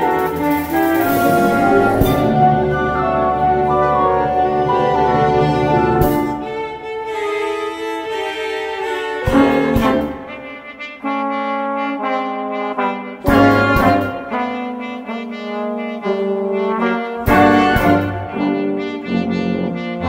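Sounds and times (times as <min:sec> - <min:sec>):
orchestra playing slowly: 0:00.0 - 0:20.0.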